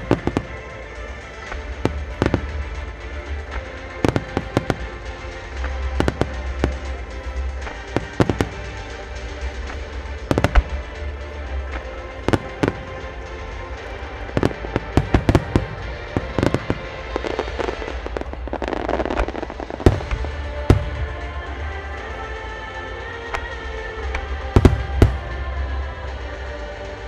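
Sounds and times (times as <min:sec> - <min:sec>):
fireworks launching and bursting: 0:00.0 - 0:27.0
music playing: 0:00.0 - 0:27.0.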